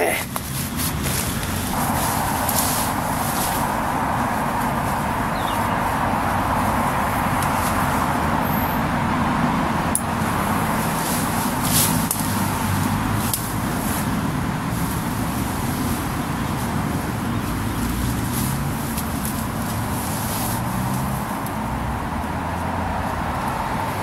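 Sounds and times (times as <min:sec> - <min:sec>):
hammock clicks and rustles: 0:00.0 - 0:24.0
road traffic rushing: 0:00.0 - 0:24.0.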